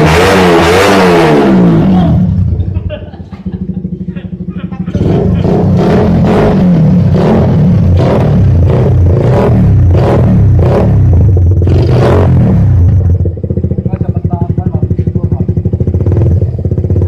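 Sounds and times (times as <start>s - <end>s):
motorcycle engine revving and idling: 0.0s - 17.0s.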